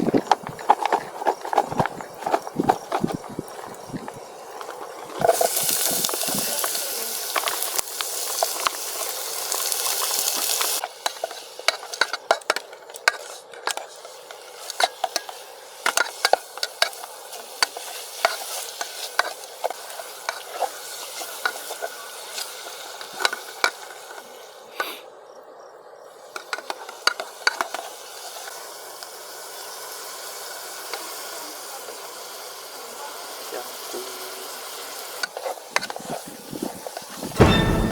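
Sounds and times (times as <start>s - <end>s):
food sizzling in hot oil: 1.3s - 25.0s, 26.1s - 37.9s.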